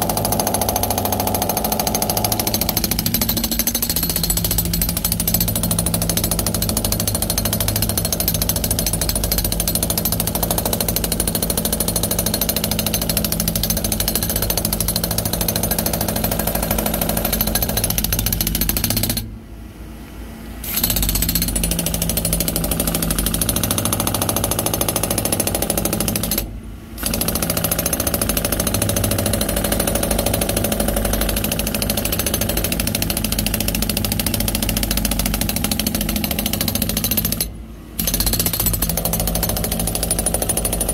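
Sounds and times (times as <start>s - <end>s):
jackhammer hammering inside steel drum: 0.0s - 19.3s, 20.7s - 40.9s.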